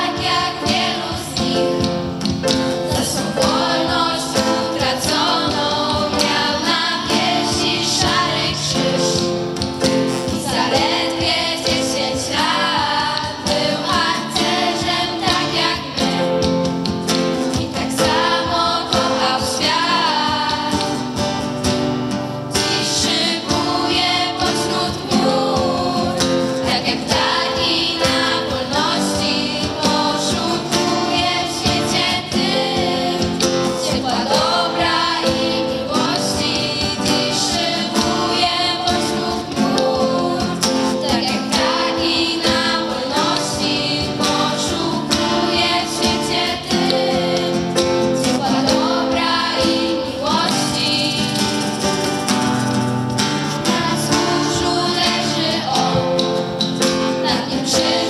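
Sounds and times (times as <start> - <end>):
girls' vocal group singing: 0.0 - 52.6, 53.5 - 58.0
acoustic guitar: 0.0 - 58.0.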